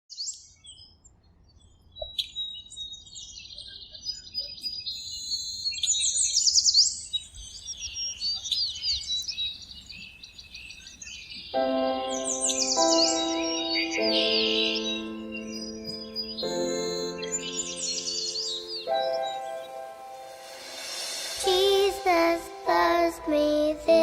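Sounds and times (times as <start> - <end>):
small birds chirping and trilling: 0.1 - 21.2.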